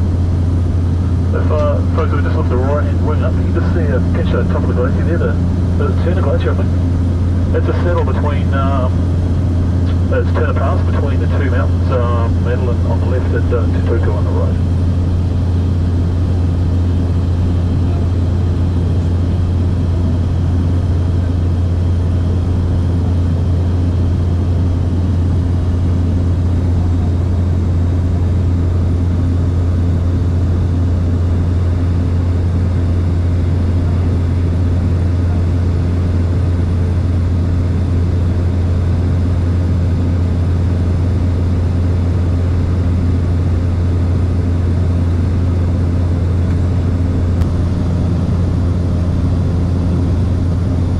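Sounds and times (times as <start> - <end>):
plane engine and propeller drone: 0.0 - 50.9.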